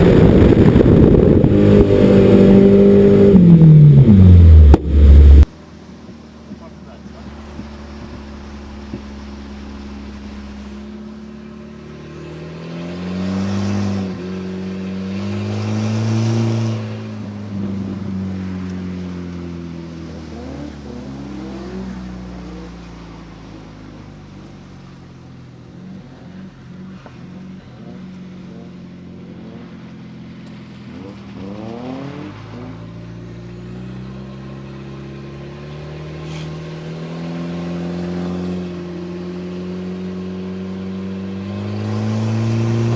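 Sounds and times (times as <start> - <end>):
car engine revving: 0.0 - 5.5, 7.6 - 42.9.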